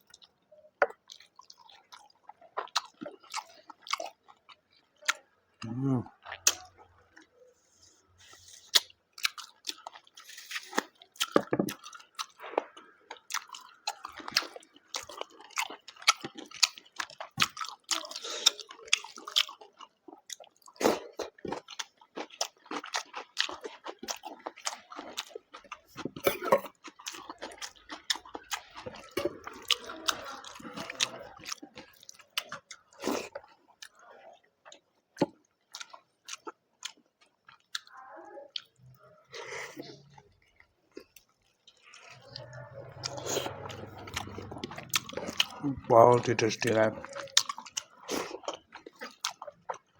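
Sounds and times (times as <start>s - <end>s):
person chewing and crunching: 0.0s - 49.9s.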